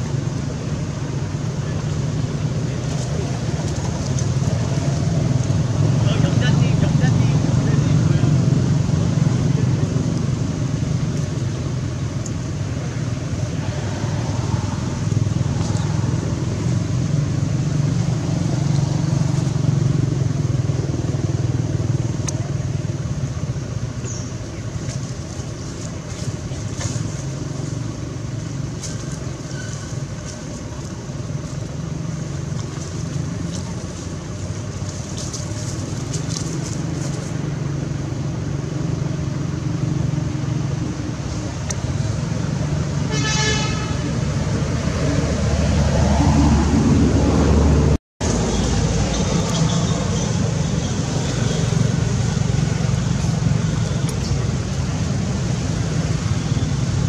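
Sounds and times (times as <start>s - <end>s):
low rumble of motor vehicles: 0.0s - 57.0s.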